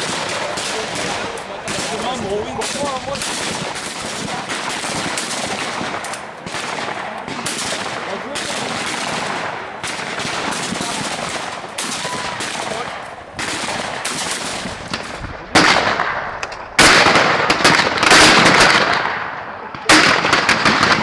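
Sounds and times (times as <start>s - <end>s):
shotguns firing: 0.0s - 21.0s.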